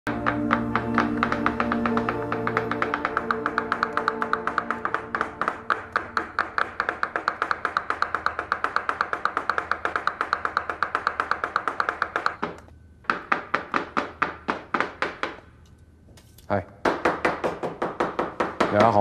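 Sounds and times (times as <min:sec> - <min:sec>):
knife chopping on cutting board: 0:00.1 - 0:15.4.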